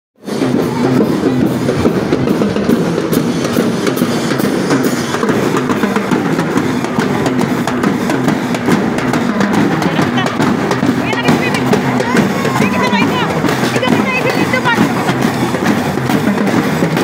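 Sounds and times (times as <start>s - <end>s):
band music: 0.2s - 17.0s
snare drums drumming: 0.2s - 17.0s.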